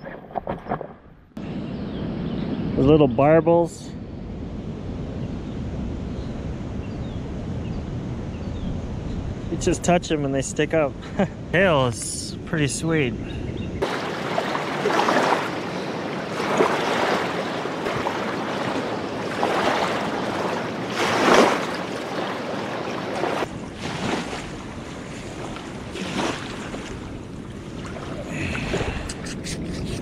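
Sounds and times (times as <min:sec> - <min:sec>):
wind gusting on microphone: 0:01.4 - 0:30.0.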